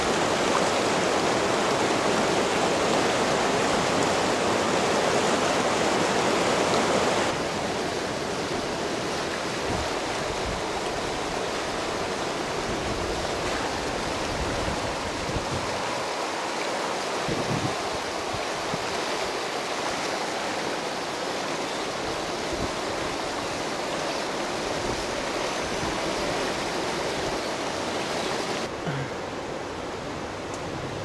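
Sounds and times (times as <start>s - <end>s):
river rushing: 0.0s - 31.0s.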